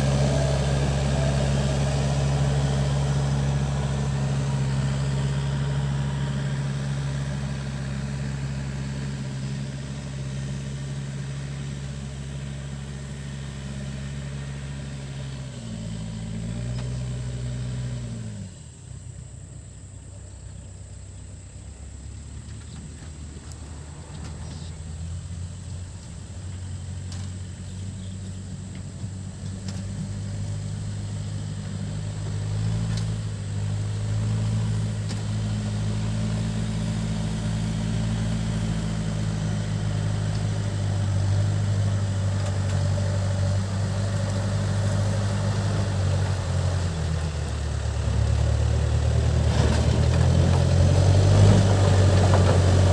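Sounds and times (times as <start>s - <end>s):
backhoe diesel engine running: 0.0s - 52.9s.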